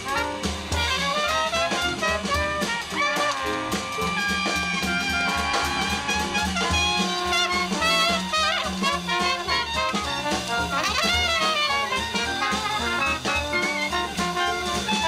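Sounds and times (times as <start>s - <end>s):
bass: 0.0s - 15.0s
drum kit: 0.0s - 15.0s
horns and clarinet melody: 0.0s - 15.0s
jazz band playing swing: 0.0s - 15.0s.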